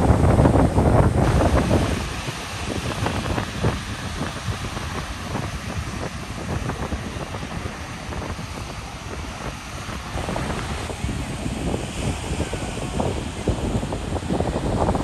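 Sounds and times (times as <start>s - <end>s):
surf washing on sandy beach: 0.0s - 15.0s
wind buffeting microphone: 0.0s - 15.0s.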